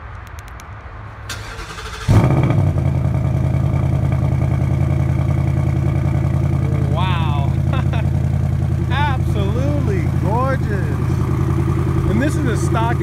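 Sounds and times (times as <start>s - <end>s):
car engine starting and idling: 1.2s - 13.0s.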